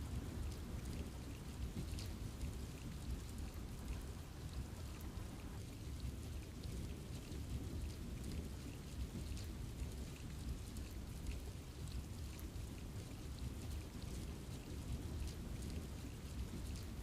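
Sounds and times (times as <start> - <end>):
rain falling in a forest: 0.0 - 17.0.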